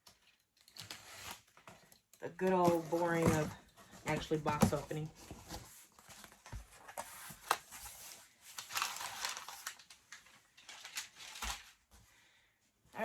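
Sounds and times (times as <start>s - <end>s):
packaging rustling and crinkling: 0.1s - 11.9s.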